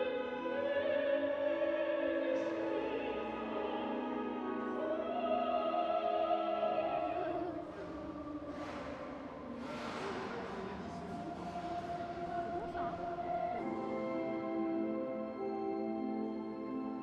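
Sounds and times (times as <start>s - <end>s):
operatic singing: 0.0s - 15.4s.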